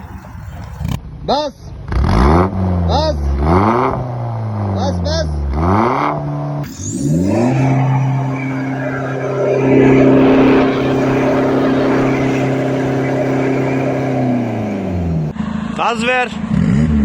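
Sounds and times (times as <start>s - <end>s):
engine revving with loud exhaust: 0.3s - 17.0s.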